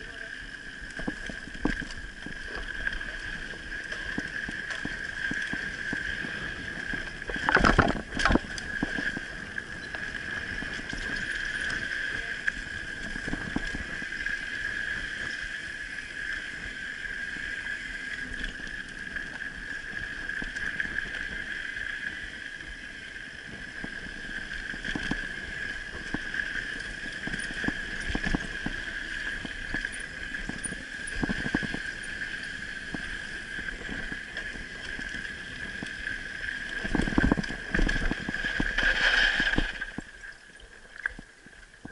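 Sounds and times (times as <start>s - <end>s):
bike tyre rumble and frame rattle: 0.0s - 40.5s, 41.2s - 41.9s.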